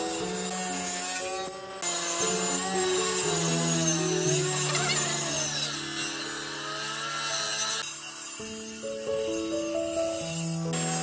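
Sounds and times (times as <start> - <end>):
power tool cutting wood: 0.0 - 11.0.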